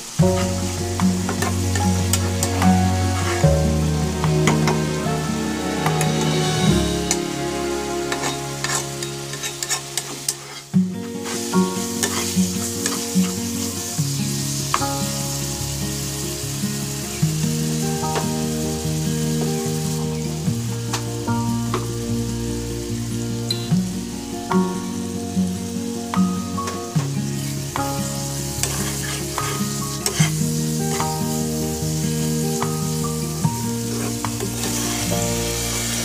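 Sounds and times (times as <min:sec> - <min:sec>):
background music: 0:00.0 - 0:36.0
food sizzling in a pan: 0:00.0 - 0:36.0.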